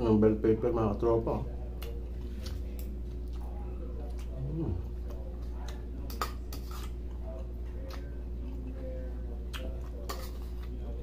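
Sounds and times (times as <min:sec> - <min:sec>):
steady low hum: 0:00.0 - 0:11.0
man chewing: 0:01.8 - 0:11.0.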